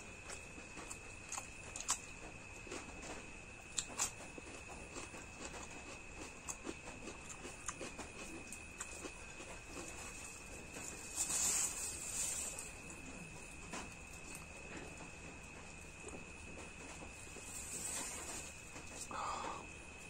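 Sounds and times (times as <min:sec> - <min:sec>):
faint high-pitched whine: 0:00.0 - 0:20.0
crunching and rustling: 0:00.1 - 0:19.1.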